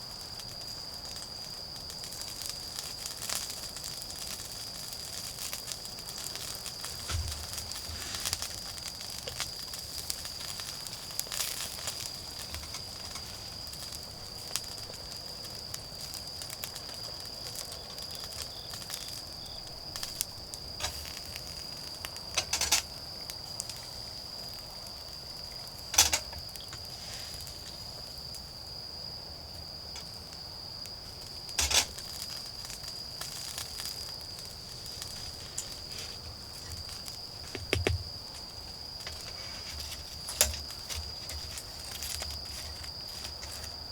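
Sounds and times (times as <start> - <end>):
insects trilling: 0.0 - 43.9
campfire crackling and popping: 0.1 - 28.7, 29.5 - 43.9.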